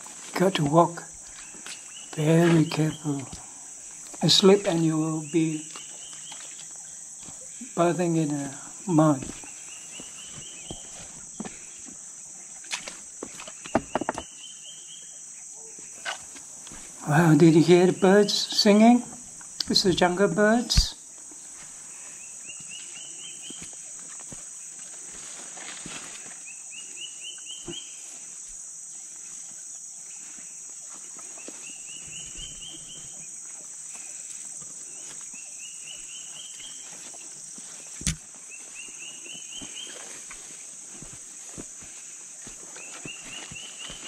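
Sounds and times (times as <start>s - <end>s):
footsteps on trail: 0.0s - 14.8s, 15.8s - 17.4s, 18.6s - 28.6s, 30.2s - 44.0s
high insect drone: 0.0s - 44.0s.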